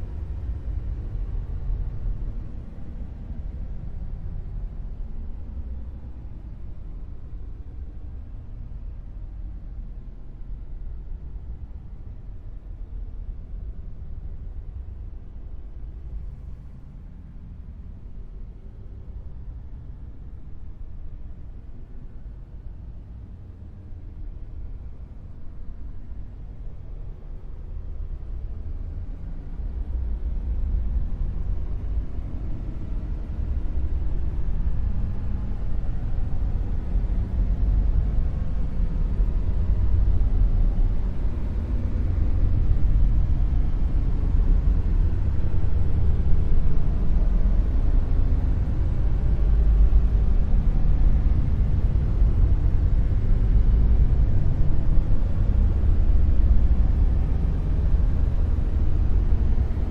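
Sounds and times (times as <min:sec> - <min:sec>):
deep low rumbling hiss: 0:00.0 - 0:59.9.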